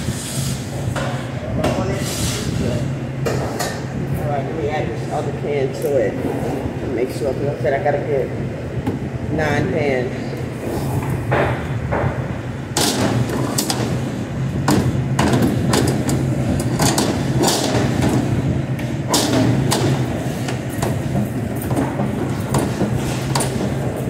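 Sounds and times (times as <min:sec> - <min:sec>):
exhaust fan hum: 0:00.0 - 0:24.0.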